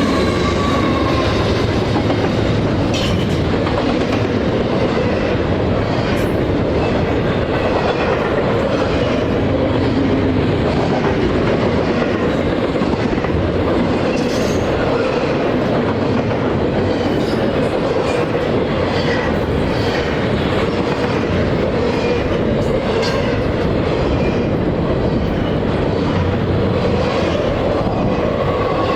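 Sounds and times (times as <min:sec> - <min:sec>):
freight train rolling past: 0:00.0 - 0:28.9.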